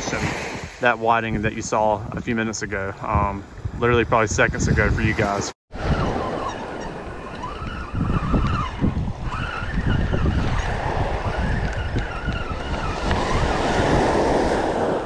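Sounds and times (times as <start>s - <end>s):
surf: 0.0s - 15.0s
wind rumble on microphone: 0.0s - 15.0s.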